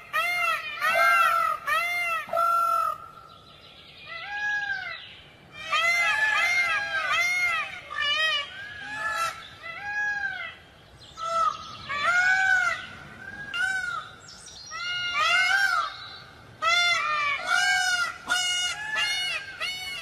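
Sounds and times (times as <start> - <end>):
peacock calling: 0.0 - 20.0.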